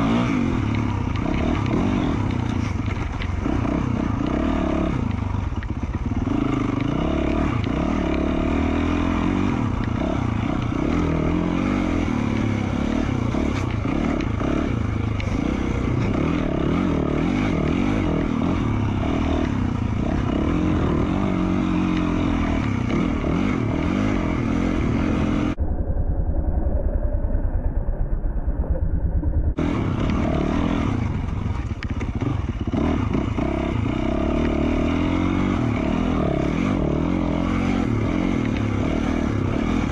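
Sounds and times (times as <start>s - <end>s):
dirt bike engine revving: 0.0s - 25.6s, 29.5s - 39.9s.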